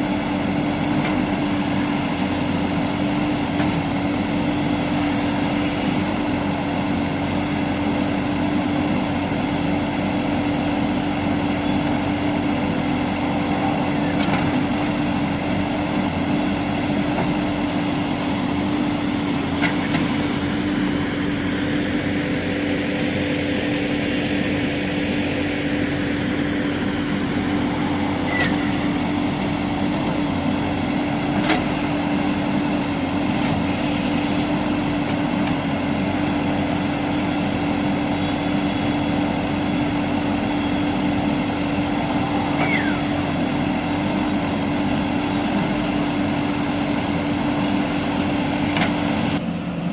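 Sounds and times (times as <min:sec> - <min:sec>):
backhoe diesel engine running: 0:00.0 - 0:49.9.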